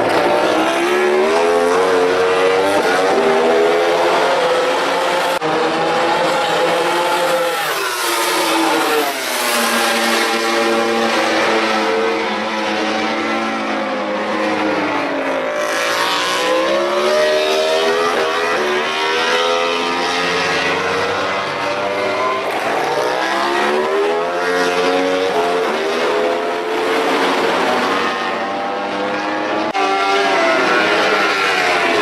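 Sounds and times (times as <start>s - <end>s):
racing motorcycle engines revving: 0.0s - 32.0s.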